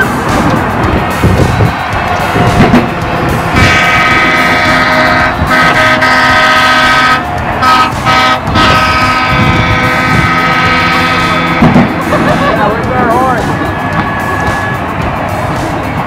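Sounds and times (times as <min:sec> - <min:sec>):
boat horns blasting: 0:01.8 - 0:15.3.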